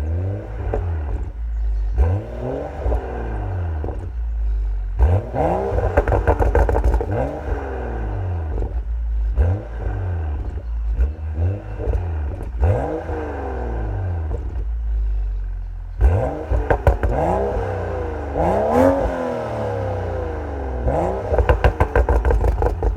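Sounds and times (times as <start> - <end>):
car engine revving: 0.0 - 22.9
exhaust crackles and pops: 0.4 - 12.8, 14.1 - 19.8, 20.8 - 22.9.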